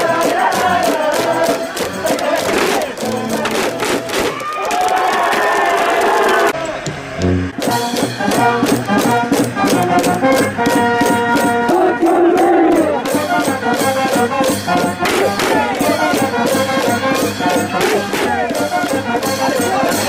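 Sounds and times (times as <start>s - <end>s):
brass band playing: 0.0s - 4.4s, 6.4s - 20.0s
steady drum beat: 0.0s - 6.6s, 7.2s - 20.0s
crowd in stands: 0.0s - 20.0s.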